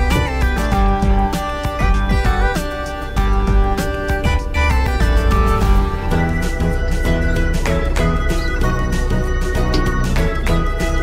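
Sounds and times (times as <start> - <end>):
music with held notes over beat: 0.0 - 11.0.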